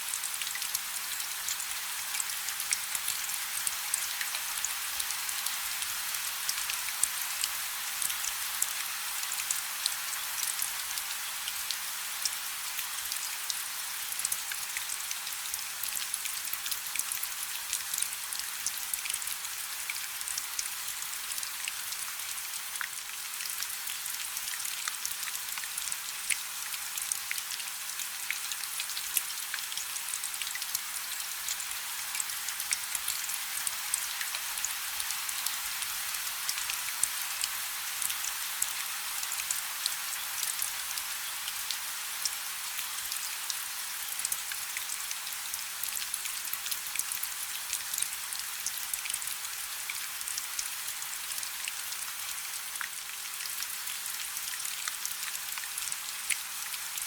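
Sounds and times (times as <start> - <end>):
rain falling on a river: 0.0 - 57.0.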